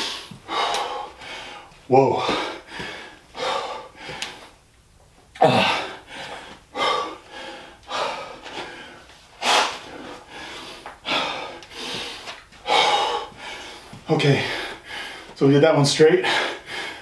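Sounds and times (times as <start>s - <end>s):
man breathing heavily: 0.0s - 4.6s, 5.4s - 15.4s, 16.1s - 17.0s.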